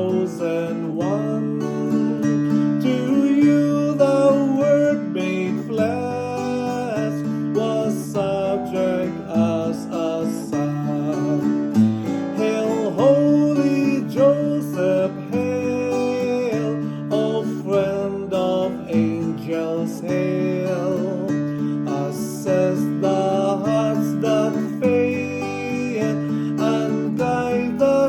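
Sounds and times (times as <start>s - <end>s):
hymn on acoustic guitar: 0.0s - 28.0s.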